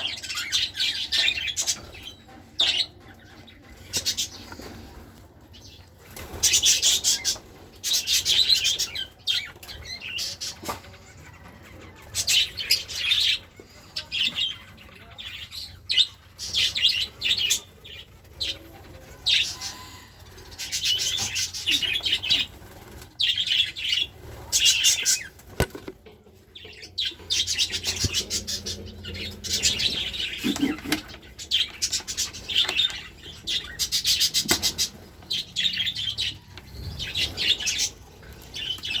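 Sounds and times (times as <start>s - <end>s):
cage birds chirping and chattering: 0.0s - 39.0s.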